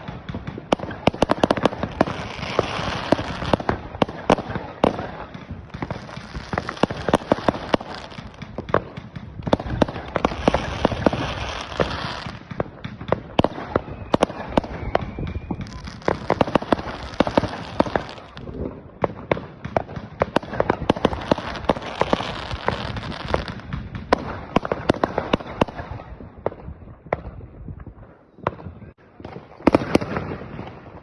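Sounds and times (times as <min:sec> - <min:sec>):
fireworks crackle: 0:00.0 - 0:26.1
firecrackers banging: 0:00.0 - 0:31.0.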